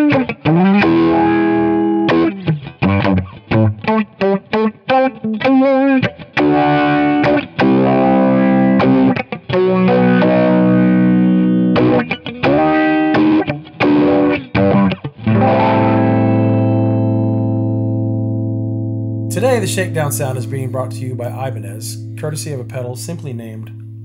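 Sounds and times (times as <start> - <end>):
electric guitar with filter sweep: 0.0 - 24.0.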